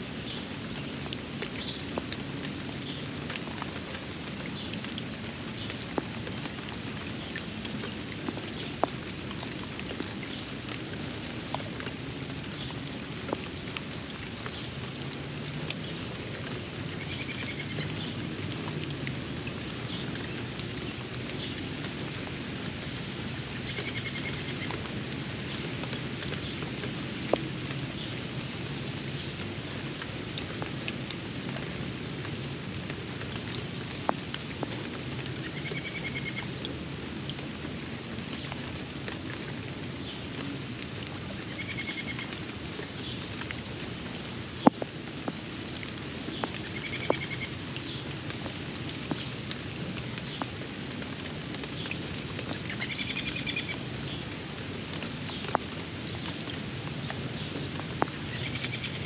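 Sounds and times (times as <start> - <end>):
steady rain falling: 0.0 - 59.0
sharp drips: 0.1 - 59.0.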